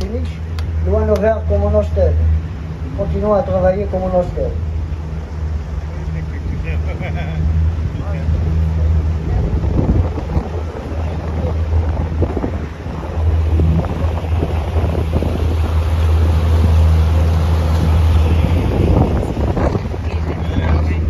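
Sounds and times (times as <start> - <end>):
boat engine humming: 0.0 - 21.0
water rushing past hull: 0.0 - 21.0
wind buffeting microphone: 0.0 - 21.0.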